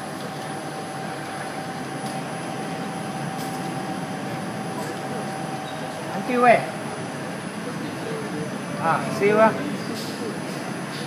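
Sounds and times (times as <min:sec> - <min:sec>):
milling machine humming and whining: 0:00.0 - 0:11.0.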